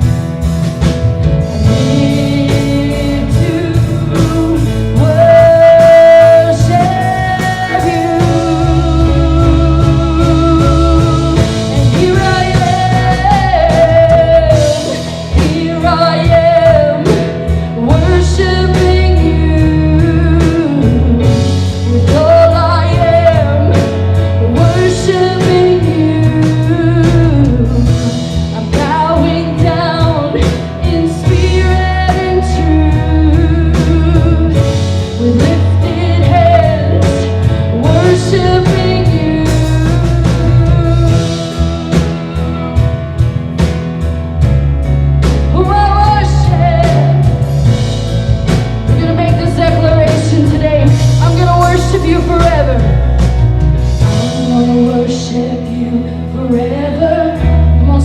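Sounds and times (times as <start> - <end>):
church worship band music: 0.0 - 58.0.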